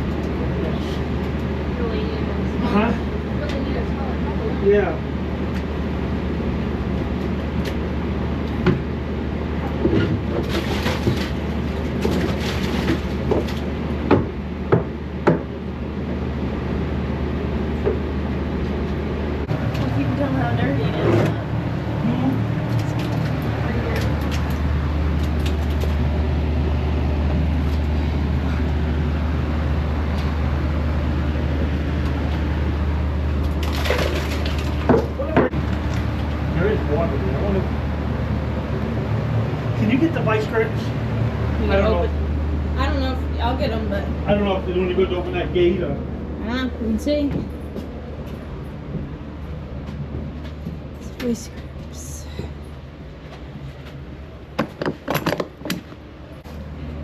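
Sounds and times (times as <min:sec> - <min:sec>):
low machinery hum: 0:00.0 - 0:57.0.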